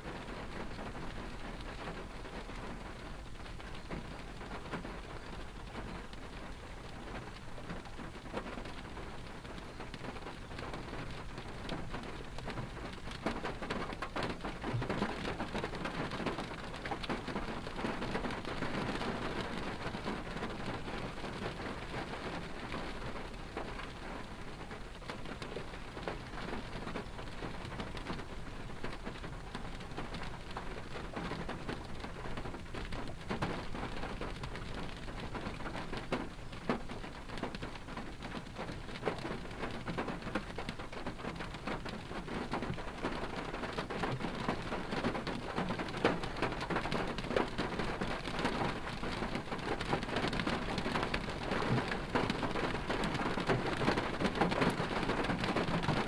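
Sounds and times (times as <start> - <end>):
rain hitting car body: 0.0 - 56.0.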